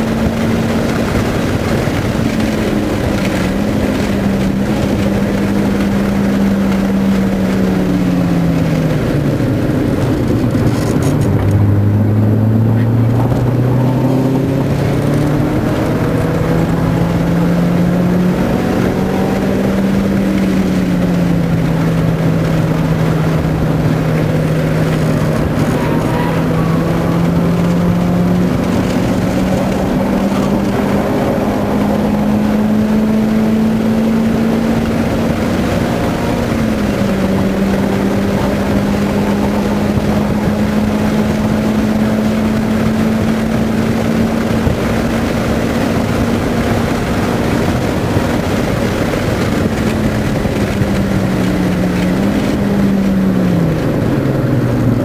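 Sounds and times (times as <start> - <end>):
car engine from inside cabin: 0.0 - 55.0
road and wind noise: 0.0 - 55.0.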